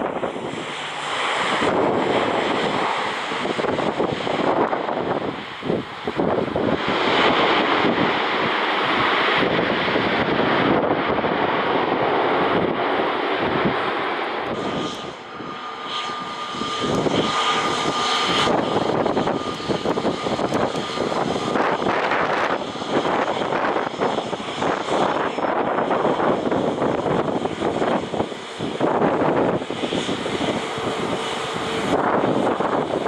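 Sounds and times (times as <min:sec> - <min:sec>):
airliner engine rush: 0:00.0 - 0:33.0
jet engine whine: 0:00.0 - 0:33.0
wind buffeting microphone: 0:00.0 - 0:33.0.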